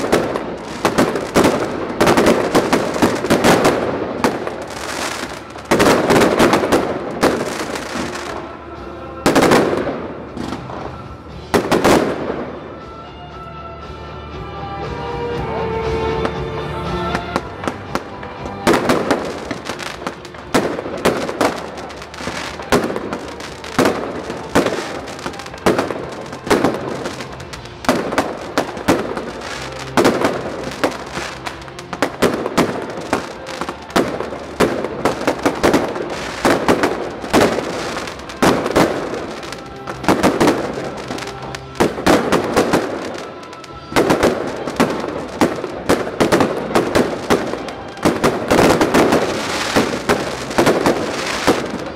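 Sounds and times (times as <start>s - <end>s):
music: 0.0s - 51.9s.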